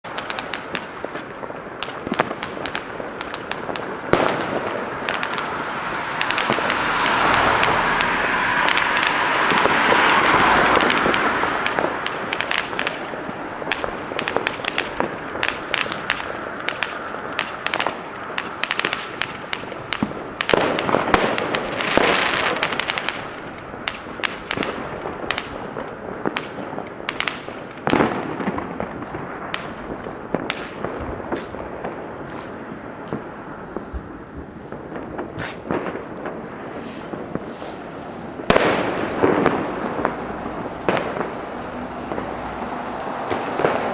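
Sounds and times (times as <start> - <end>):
firecrackers banging and crackling: 0.0 - 43.9
firework hiss: 0.1 - 43.9
loud single firework bangs: 0.1 - 43.9.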